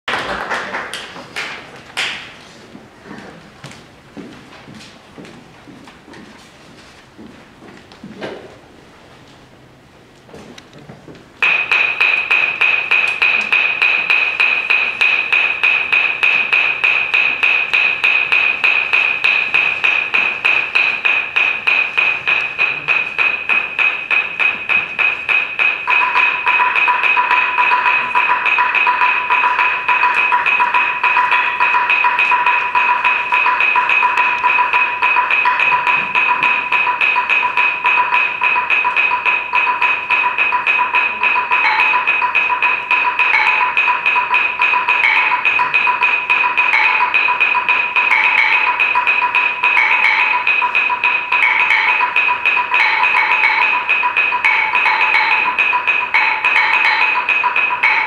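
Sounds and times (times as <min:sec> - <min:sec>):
high wood blocks struck with sticks: 0:00.1 - 0:02.4, 0:11.4 - 0:58.0.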